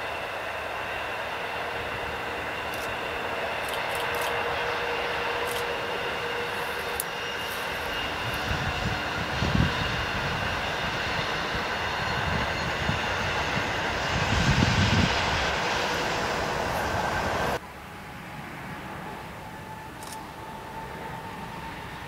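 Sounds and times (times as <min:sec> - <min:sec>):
passing train rushing noise: 0:00.0 - 0:22.0.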